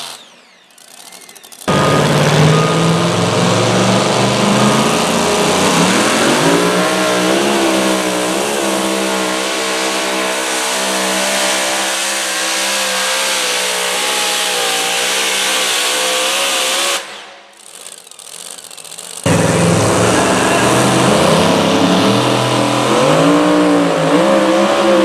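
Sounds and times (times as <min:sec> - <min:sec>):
truck engine at full throttle: 0:00.0 - 0:25.0.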